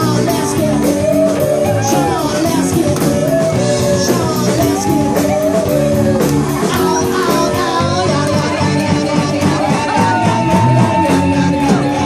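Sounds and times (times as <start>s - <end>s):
live rock and roll band: 0.0s - 12.0s
person singing: 0.0s - 12.0s.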